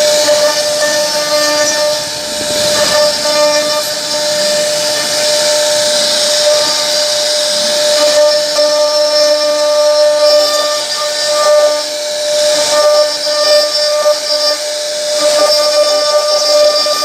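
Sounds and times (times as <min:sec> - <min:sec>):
router spindle high whine: 0:00.0 - 0:17.0
rushing wood cutting noise: 0:00.0 - 0:17.0.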